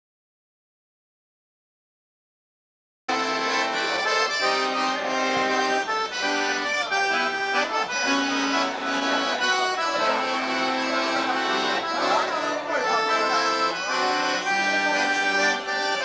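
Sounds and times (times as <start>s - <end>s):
accordion melody: 3.1s - 16.0s.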